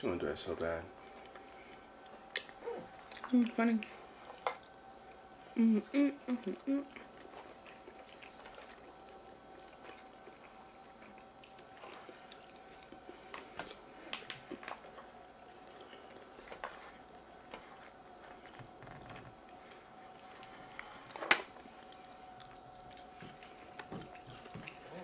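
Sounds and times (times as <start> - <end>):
faint steady hum: 0.0 - 25.0
faint chewing: 1.0 - 5.6, 6.3 - 25.0.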